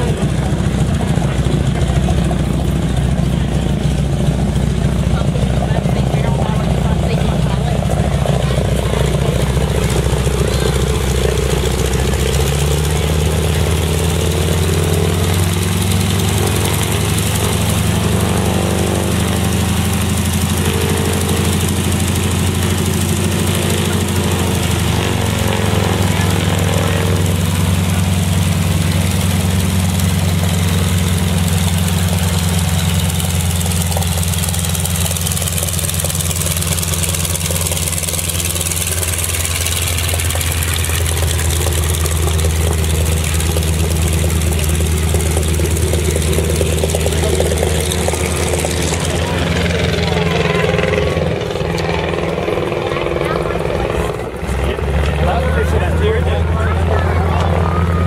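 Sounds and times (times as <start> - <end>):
radial aircraft engine droning: 0.0 - 58.0.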